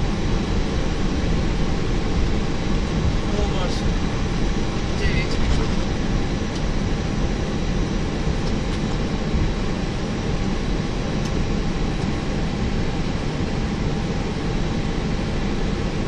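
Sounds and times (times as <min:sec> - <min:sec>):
airflow and engine drone: 0:00.0 - 0:16.0.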